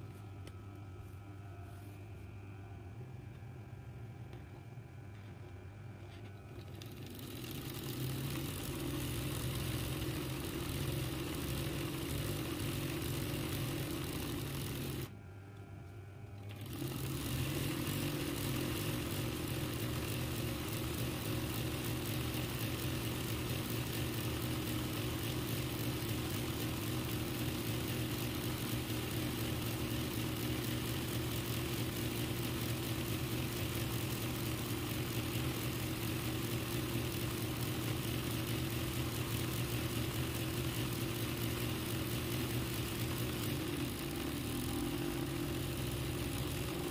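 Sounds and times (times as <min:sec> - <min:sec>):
sewing machine running: 0:06.5 - 0:15.1, 0:16.4 - 0:46.9.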